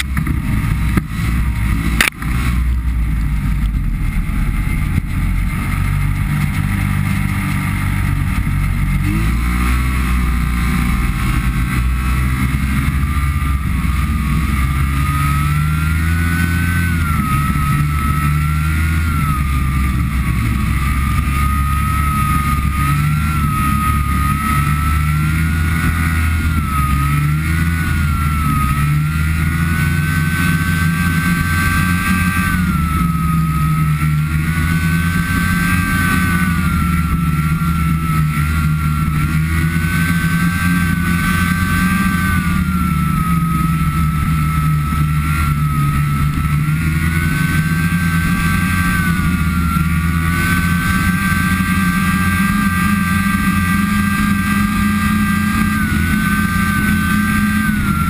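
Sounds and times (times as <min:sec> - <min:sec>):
snowmobile engine whine: 0:00.0 - 0:58.0.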